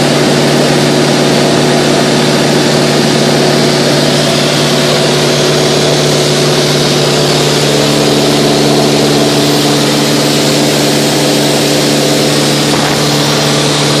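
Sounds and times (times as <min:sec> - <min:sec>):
propeller aircraft engine running: 0:00.0 - 0:14.0
airflow rushing over airframe: 0:02.0 - 0:14.0.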